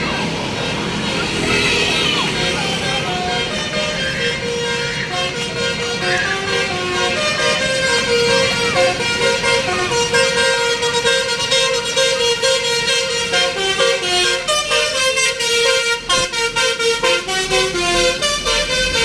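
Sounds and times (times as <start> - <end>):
truck horn playing a tune: 0.0 - 19.0.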